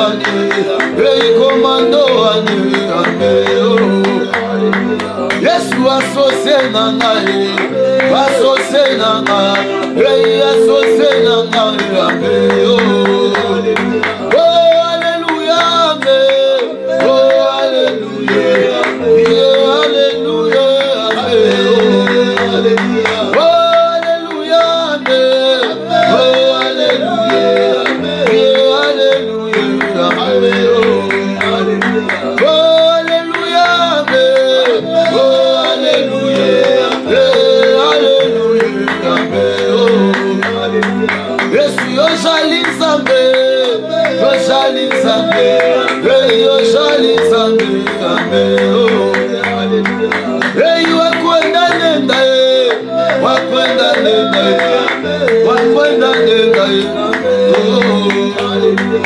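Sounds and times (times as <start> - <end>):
electronic keyboard: 0.0 - 59.0
men singing gospel: 0.0 - 59.0
walking bass line: 0.0 - 59.0.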